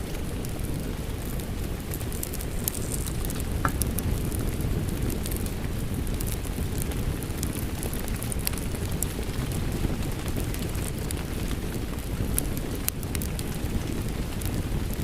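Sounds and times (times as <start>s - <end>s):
rain: 0.0s - 15.0s
wood fire crackling: 0.0s - 15.0s.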